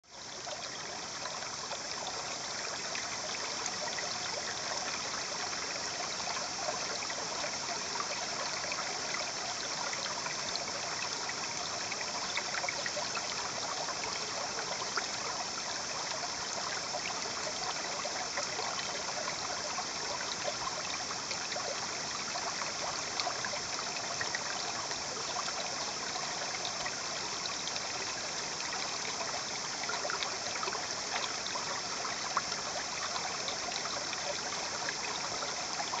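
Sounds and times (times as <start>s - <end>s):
shallow river flowing: 0.0s - 36.0s.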